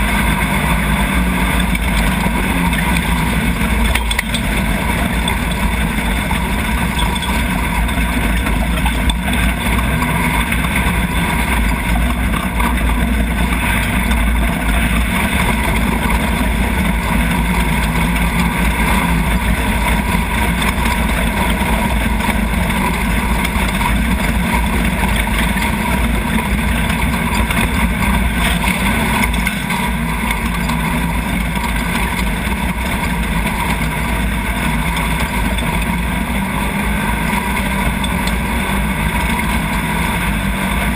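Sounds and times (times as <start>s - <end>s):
buggy engine running hard: 0.0s - 40.9s.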